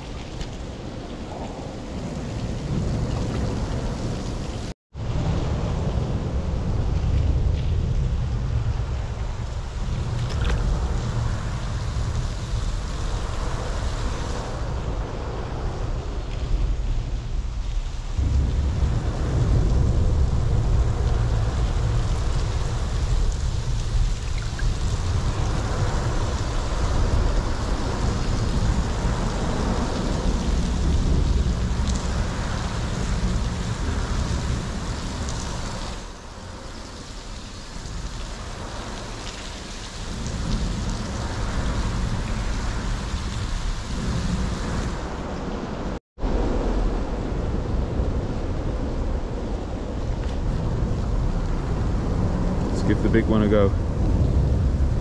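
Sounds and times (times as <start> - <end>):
low rumble: 0.0 - 39.3, 40.0 - 55.0
heavy rain falling: 0.0 - 55.0.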